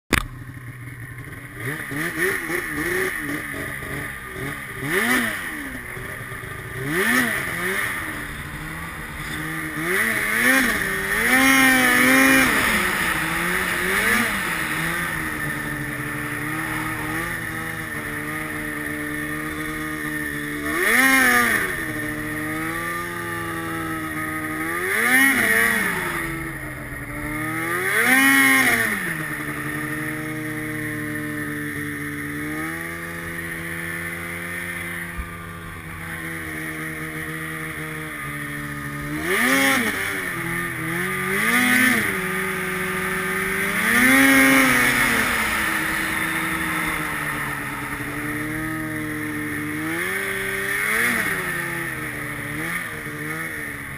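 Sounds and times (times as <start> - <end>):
snowmobile engine revving: 0.2 - 53.9.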